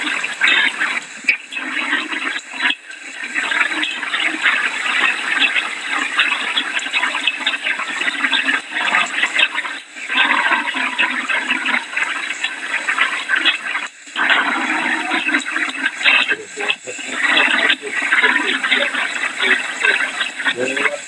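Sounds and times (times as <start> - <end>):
heavy rain pouring and splashing: 0.0 - 21.0.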